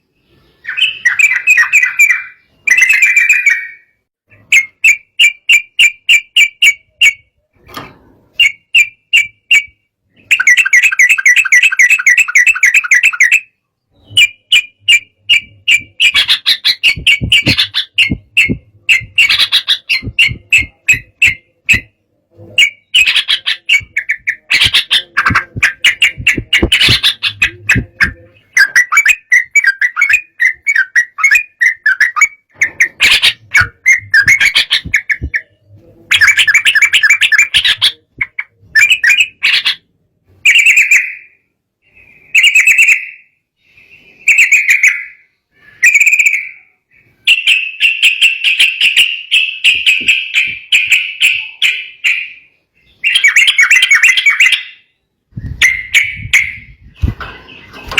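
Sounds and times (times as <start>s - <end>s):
bird chirping: 0.0s - 7.7s, 8.3s - 57.9s.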